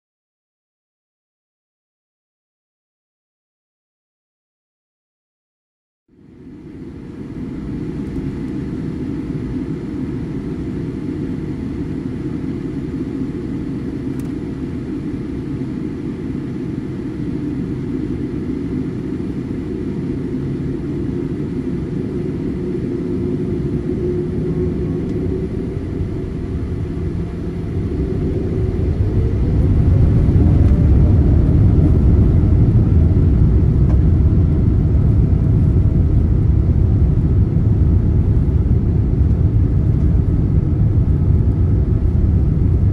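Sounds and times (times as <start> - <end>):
airplane cabin rumble: 6.1 - 42.9
jet engines whining: 6.2 - 42.9.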